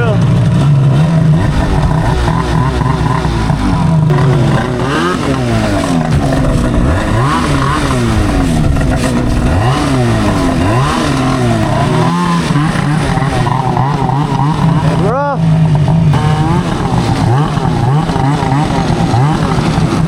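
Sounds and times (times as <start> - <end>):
snowmobile engines revving: 0.0 - 20.0.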